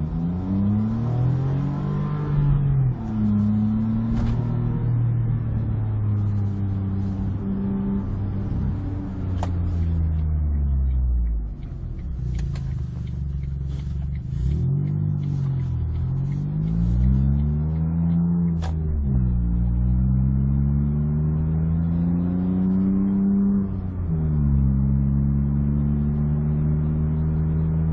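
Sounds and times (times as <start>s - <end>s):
car engine running: 0.0s - 27.9s
engine revving: 0.0s - 27.9s.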